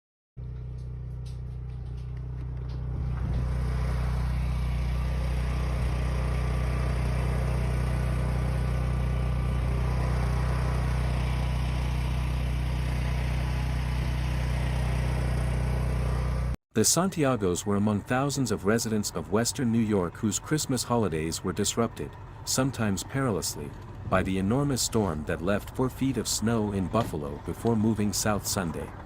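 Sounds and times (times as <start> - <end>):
low engine hum: 0.4 - 16.6, 17.3 - 29.0.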